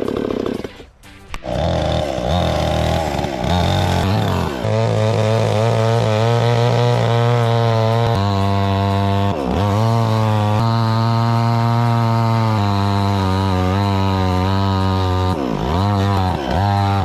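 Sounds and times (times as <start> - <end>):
chainsaw engine buzzing: 0.0 - 17.0.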